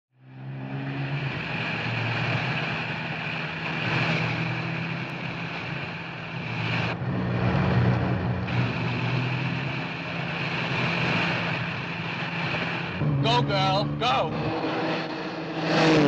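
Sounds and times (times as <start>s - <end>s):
car engine drone: 0.1s - 16.0s
road and wind rush: 0.2s - 16.0s.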